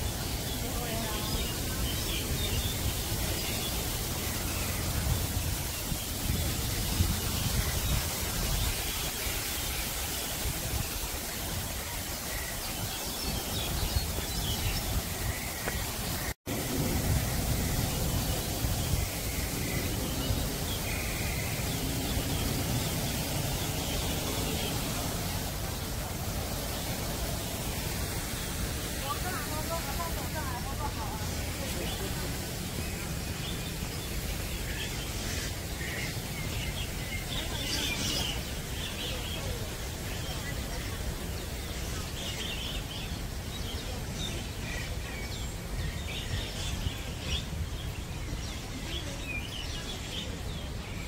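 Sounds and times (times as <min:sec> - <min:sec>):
outdoor hiss: 0:00.0 - 0:51.0.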